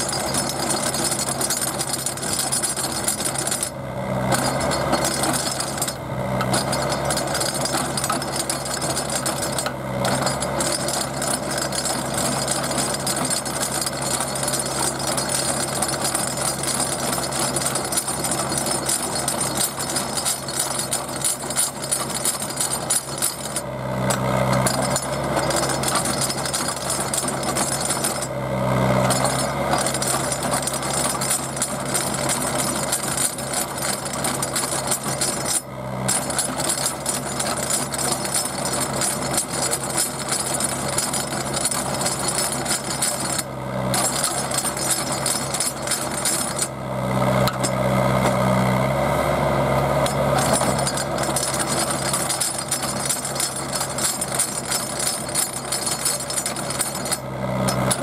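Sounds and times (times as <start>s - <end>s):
auger grinding and rattling: 0.0s - 58.0s
drill rig engine under load: 0.0s - 58.0s.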